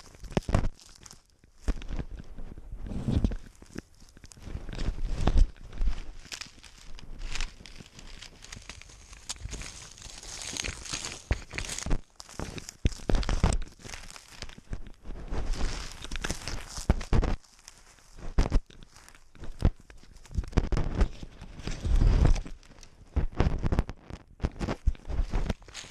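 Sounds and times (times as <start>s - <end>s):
camera bumping against fur: 0.0s - 25.9s
straw and plastic rustling: 0.0s - 25.9s.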